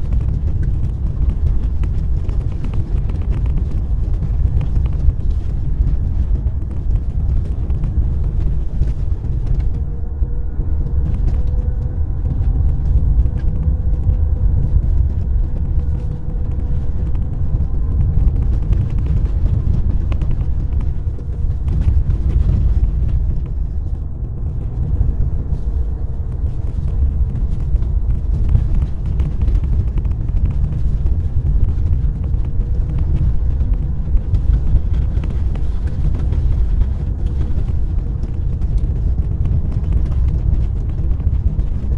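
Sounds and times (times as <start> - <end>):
car tyres and engine rumbling: 0.0 - 41.9
faint steady hum: 0.0 - 41.9.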